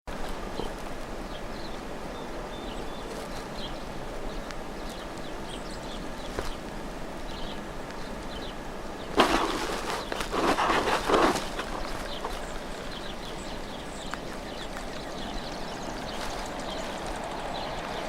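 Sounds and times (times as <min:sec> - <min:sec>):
outdoor background hiss: 0:00.1 - 0:18.0
songbirds chip notes: 0:00.1 - 0:18.0.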